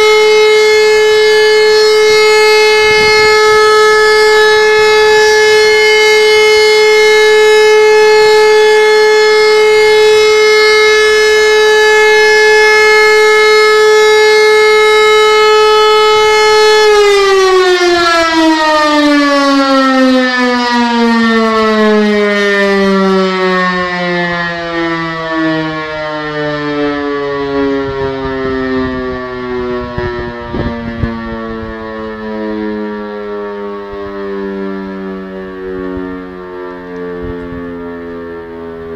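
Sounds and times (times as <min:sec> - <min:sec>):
siren steady tone winding down: 0:00.0 - 0:38.9.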